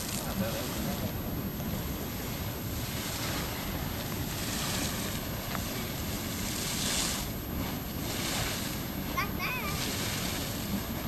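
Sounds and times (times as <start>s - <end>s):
geyser water splashing: 0.0s - 11.0s.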